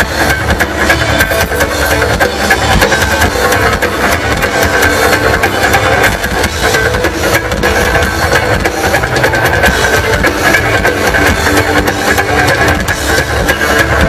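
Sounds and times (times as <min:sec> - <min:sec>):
drum kit beat: 0:00.0 - 0:14.0
electric cellos playing rock: 0:00.0 - 0:14.0.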